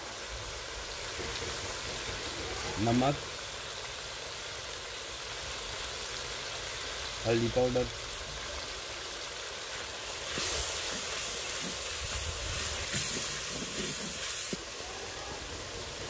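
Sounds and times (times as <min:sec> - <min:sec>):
masala sizzling in a pot: 0:00.0 - 0:16.0.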